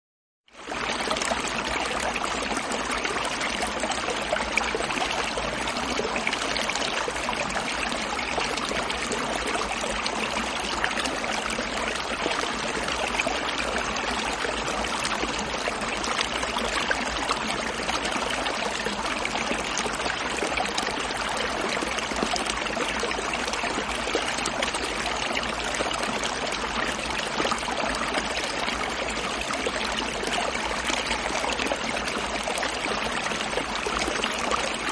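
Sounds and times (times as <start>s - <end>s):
stream gurgling: 0.6s - 34.9s.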